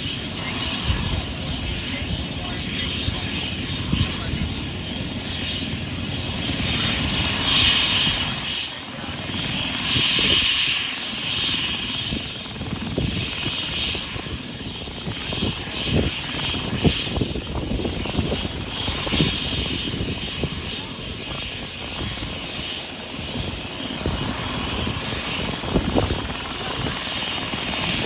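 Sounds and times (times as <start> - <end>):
helicopter turbine whine and rotor: 0.0 - 28.0.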